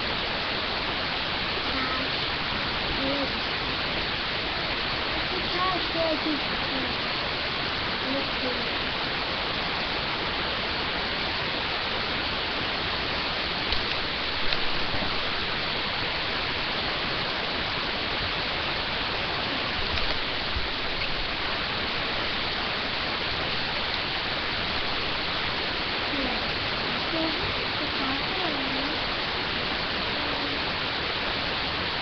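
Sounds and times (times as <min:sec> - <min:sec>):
microphone hiss: 0:00.0 - 0:32.0.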